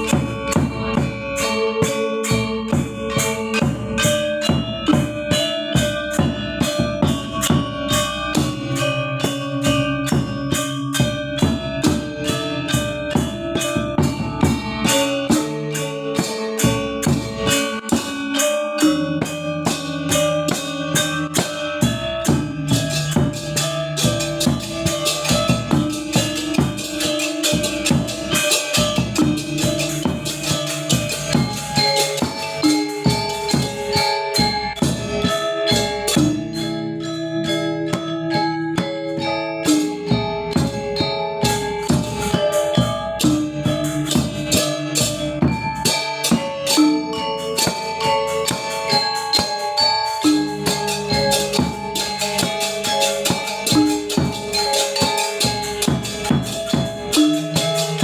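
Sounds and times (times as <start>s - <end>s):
gamelan gongs and bronze keys ringing: 0.0s - 58.0s.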